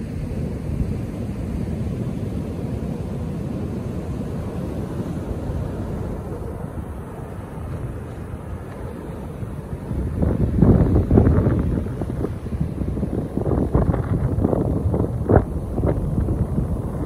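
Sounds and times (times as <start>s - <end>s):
waves crashing on beach: 0.0s - 17.0s.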